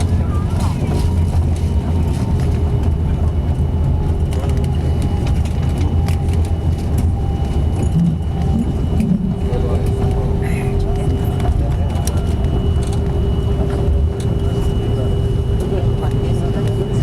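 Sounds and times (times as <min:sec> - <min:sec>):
aircraft engines rumbling: 0:00.0 - 0:17.0.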